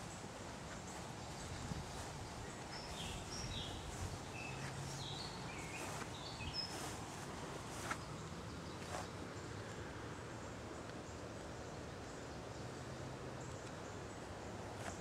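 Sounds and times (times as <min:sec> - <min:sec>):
outdoor background hiss: 0:00.0 - 0:15.0
songbird chirping: 0:00.0 - 0:15.0.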